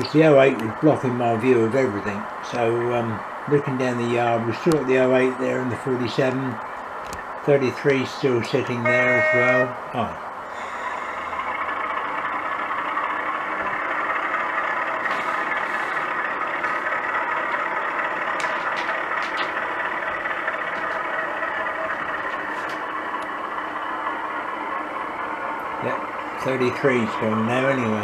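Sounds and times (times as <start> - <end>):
diesel engine sound from small speaker: 0.0 - 28.0.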